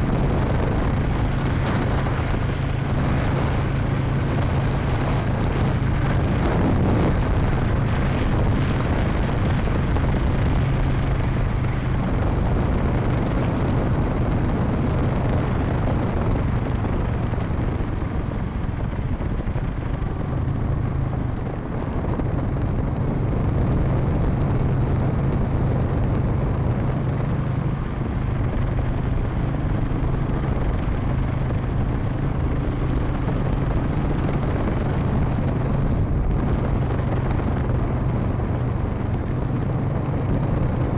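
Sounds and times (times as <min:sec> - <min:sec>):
motorcycle engine running: 0:00.0 - 0:40.9
wind noise rushing: 0:00.0 - 0:40.9.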